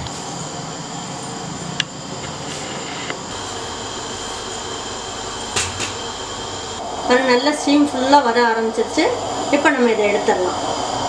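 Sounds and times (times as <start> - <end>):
steam hissing from vent: 0.0 - 11.0.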